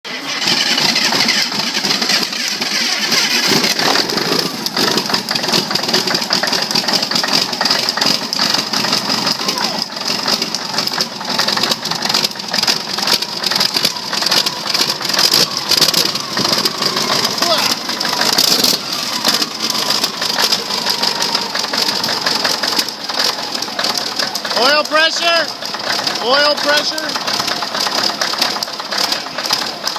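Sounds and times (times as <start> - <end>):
diesel engine starting and running: 0.0 - 29.9.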